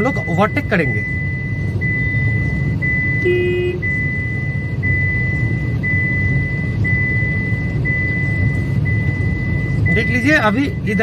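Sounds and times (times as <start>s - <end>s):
car engine and road noise: 0.0s - 11.0s
high electronic beep tone: 0.0s - 11.0s.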